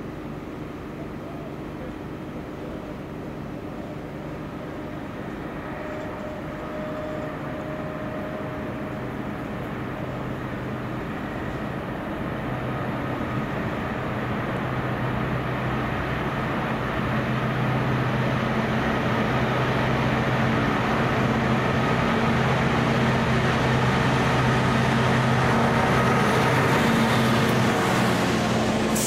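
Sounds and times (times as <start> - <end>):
train engine drone: 0.0 - 29.0.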